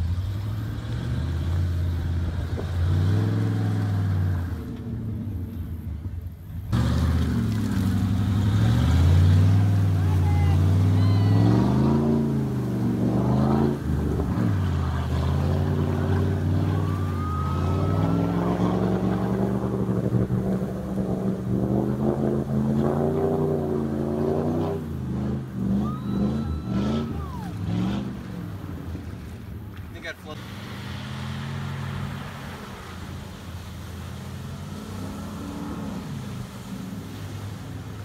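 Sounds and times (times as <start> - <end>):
pickup truck engine revving: 0.0 - 5.9, 6.6 - 29.6, 30.4 - 38.0
truck ploughing through water: 0.0 - 38.0.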